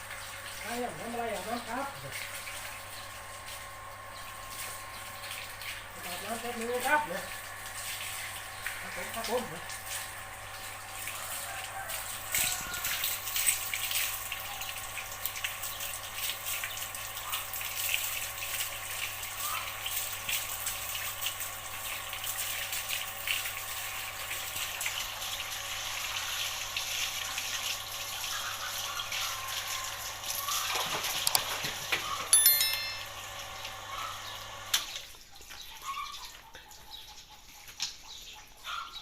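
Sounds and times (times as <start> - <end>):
small splashes and drips: 0.0 - 31.4.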